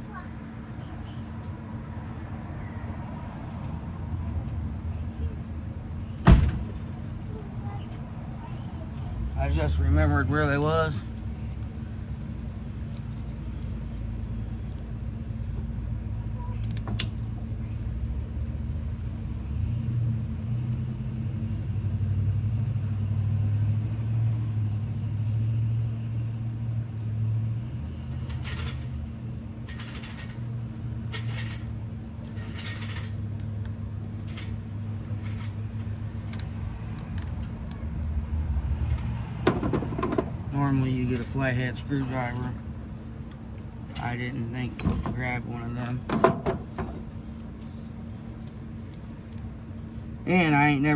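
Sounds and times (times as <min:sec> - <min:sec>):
low rumble and hum: 0:00.0 - 0:50.9.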